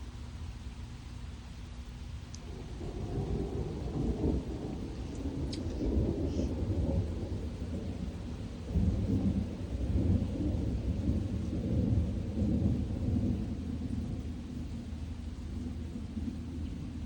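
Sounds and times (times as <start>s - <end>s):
rain: 0.0s - 17.0s
thunder rumbling: 2.2s - 17.0s.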